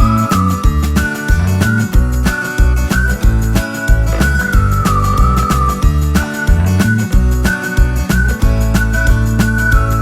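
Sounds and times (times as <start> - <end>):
upbeat music with whistled melody: 0.0 - 10.0.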